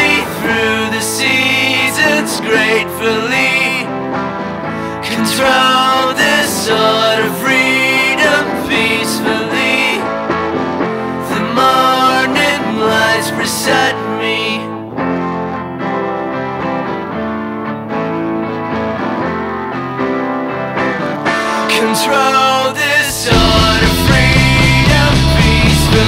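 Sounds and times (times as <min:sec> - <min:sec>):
indie rock band with guitars: 0:00.0 - 0:26.0.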